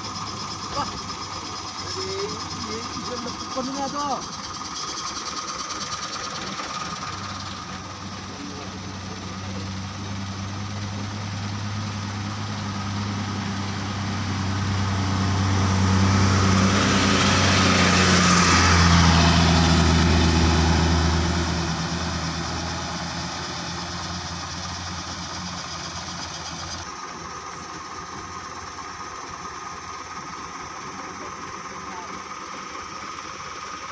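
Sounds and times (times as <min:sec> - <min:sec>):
bus diesel engine hum: 0:00.0 - 0:33.9.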